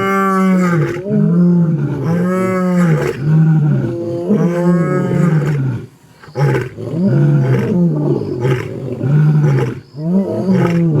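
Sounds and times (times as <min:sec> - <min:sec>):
lion roaring: 0:00.0 - 0:11.0.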